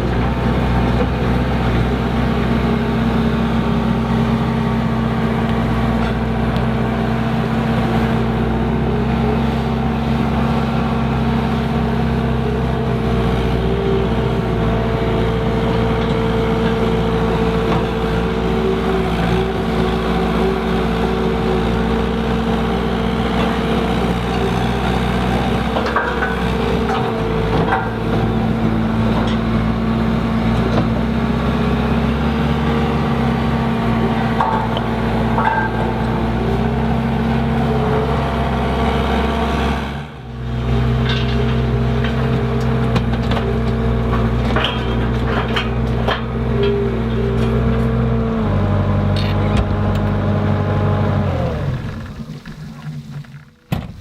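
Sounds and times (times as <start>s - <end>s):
loader engine running: 0.0s - 54.0s.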